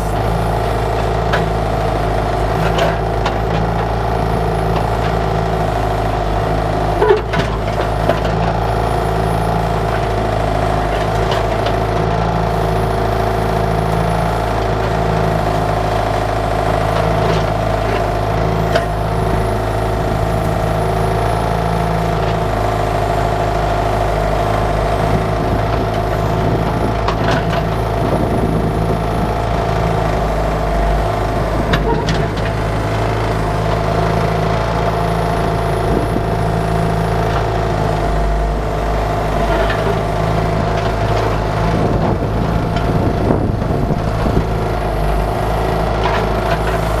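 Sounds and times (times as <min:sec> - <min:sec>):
diesel engine under load: 0:00.0 - 0:47.0.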